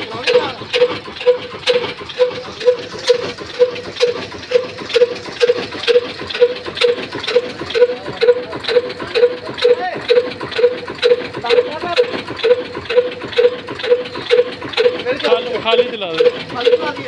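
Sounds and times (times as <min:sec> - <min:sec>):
diesel engine knocking slowly: 0:00.0 - 0:17.0.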